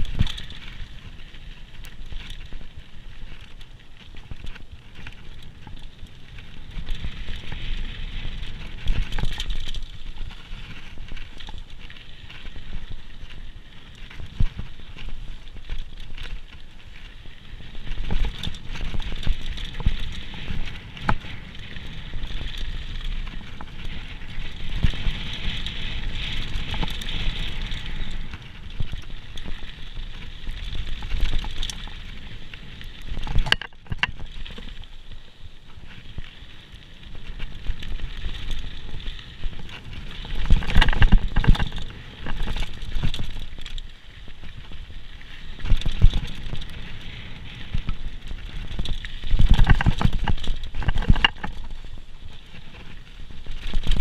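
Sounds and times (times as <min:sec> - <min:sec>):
bike rattling over bumps: 0:00.0 - 0:54.0
tyres crunching over gravel: 0:00.0 - 0:54.0
wind rumbling on microphone: 0:00.0 - 0:54.0.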